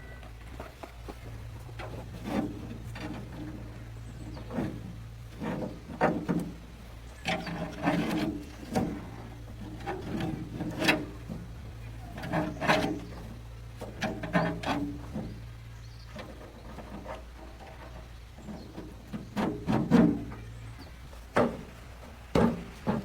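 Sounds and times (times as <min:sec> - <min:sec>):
steady low hum: 0:00.0 - 0:23.0
tools knocking and scraping: 0:00.2 - 0:23.0.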